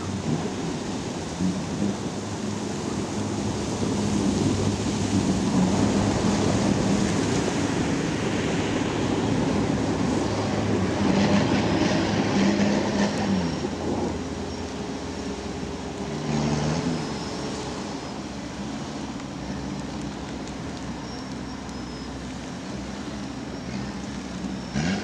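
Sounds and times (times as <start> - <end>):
distant vehicle engines running: 0.0 - 25.0
steady rushing noise: 0.0 - 25.0
vehicles churning through water and ice: 0.0 - 25.0.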